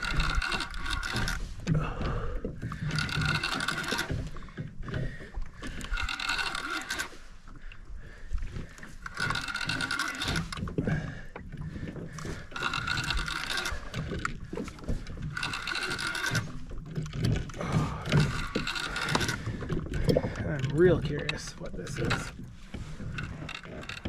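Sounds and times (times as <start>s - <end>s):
fishing reel whirring: 0.0s - 1.6s, 2.6s - 20.0s, 20.6s - 24.0s.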